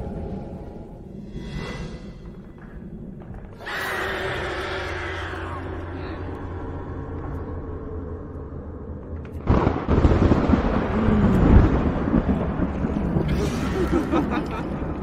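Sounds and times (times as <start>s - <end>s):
thunder rumbling and cracking: 0.0s - 15.0s.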